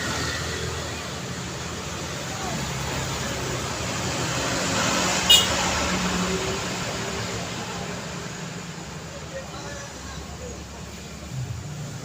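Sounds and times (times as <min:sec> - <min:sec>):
road traffic passing: 0:00.0 - 0:12.0
vehicle passing: 0:00.0 - 0:12.0.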